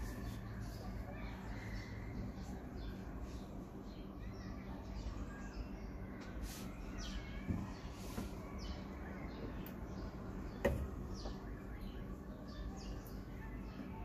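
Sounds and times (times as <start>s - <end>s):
birds chirping: 0.0s - 14.0s
low steady hum: 0.0s - 14.0s.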